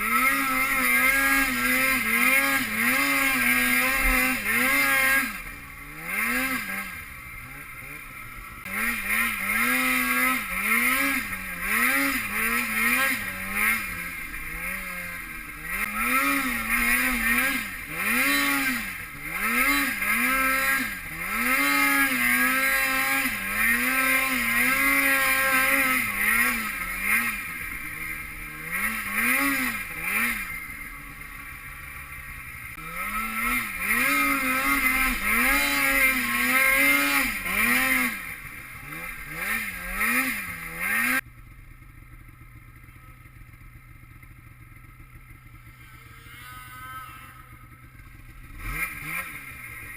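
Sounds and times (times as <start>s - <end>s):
snowmobile engine revving: 0.0s - 41.2s, 44.8s - 49.9s.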